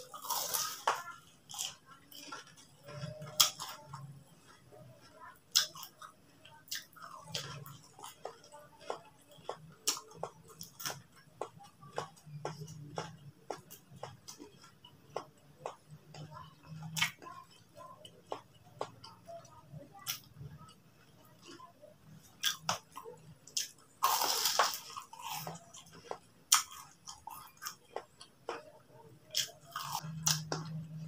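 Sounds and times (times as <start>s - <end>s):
chewing crispy fried food: 0.0s - 31.0s.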